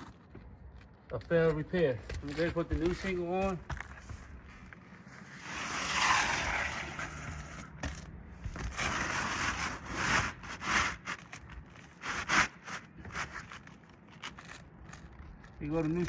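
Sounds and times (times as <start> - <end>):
roof shingle scraping: 1.2 - 16.0.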